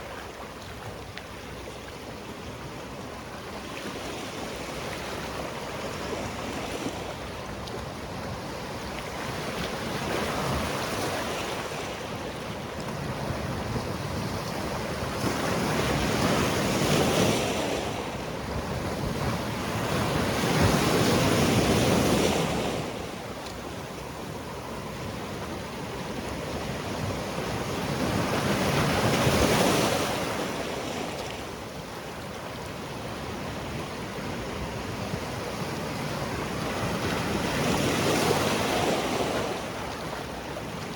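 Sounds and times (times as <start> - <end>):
sea waves on rocky shore: 0.0 - 40.9.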